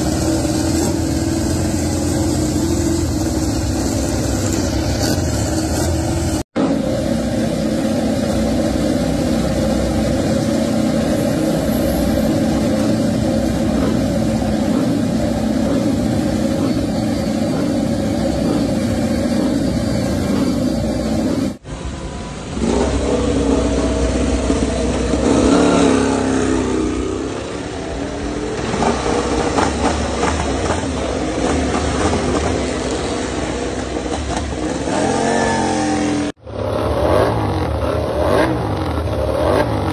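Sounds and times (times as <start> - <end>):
race bike engines revving: 0.0 - 39.9.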